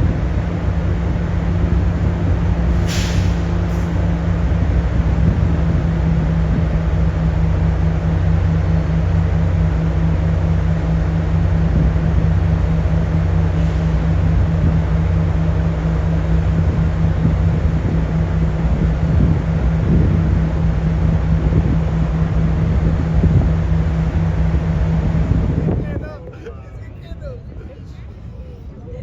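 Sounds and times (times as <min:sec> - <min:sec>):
train locomotive idling: 0:00.0 - 0:29.0.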